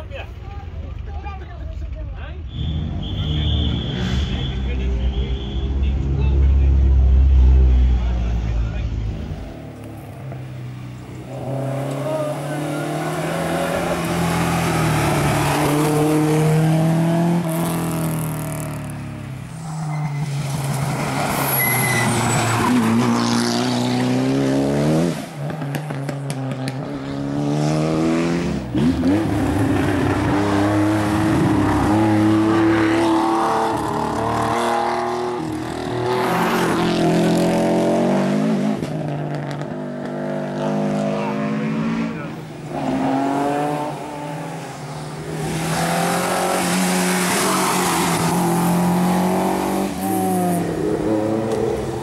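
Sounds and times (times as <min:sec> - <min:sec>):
rally car engines accelerating: 0:05.7 - 0:52.0.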